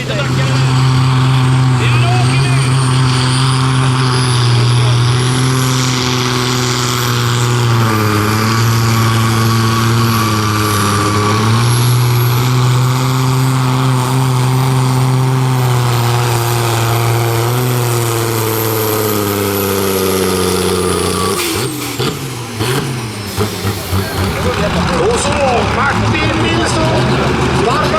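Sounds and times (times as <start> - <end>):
tractor engine under load: 0.0 - 27.9.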